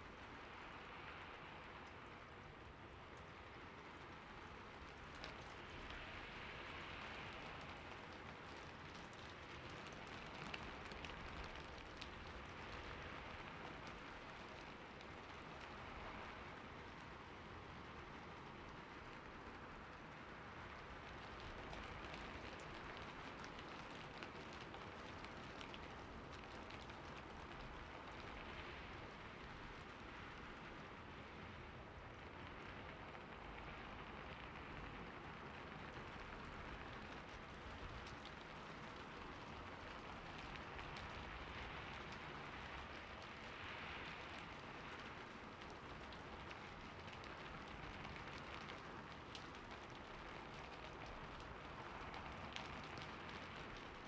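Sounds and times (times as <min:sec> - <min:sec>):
rain falling on a roof: 0:00.0 - 0:54.0.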